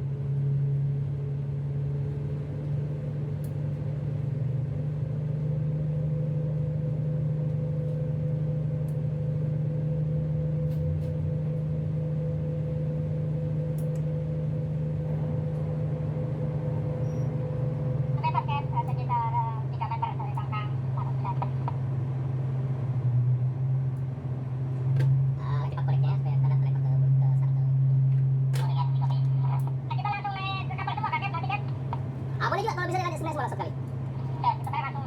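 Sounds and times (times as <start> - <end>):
boat diesel engines droning: 0.0 - 35.0.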